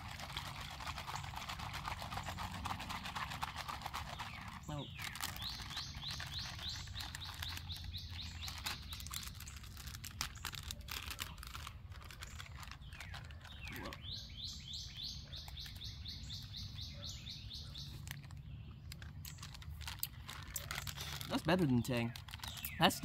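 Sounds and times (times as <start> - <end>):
songbird chirping: 1.0 - 23.0.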